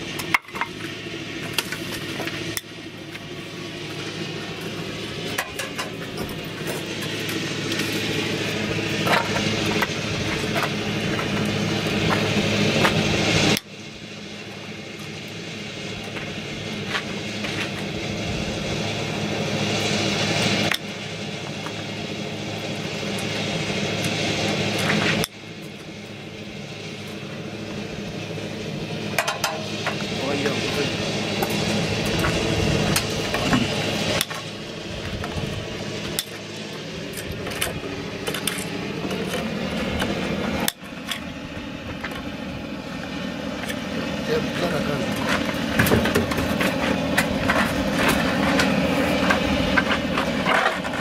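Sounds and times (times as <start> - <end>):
engine humming: 0.0 - 51.0.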